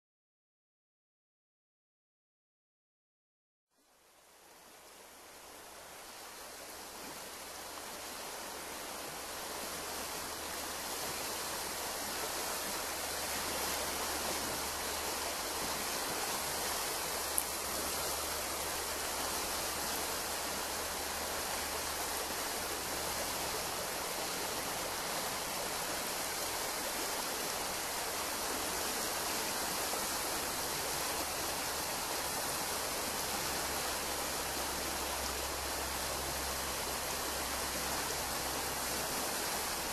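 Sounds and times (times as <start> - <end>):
stream flowing over stones: 3.8 - 39.9.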